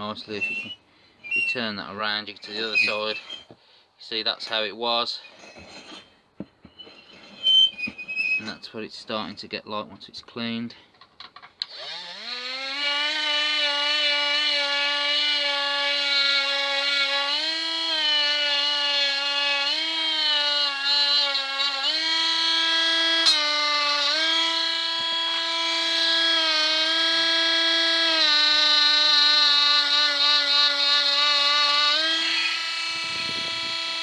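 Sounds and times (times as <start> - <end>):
rotary tool whining: 0.0 - 3.6, 5.2 - 8.6, 11.6 - 34.0.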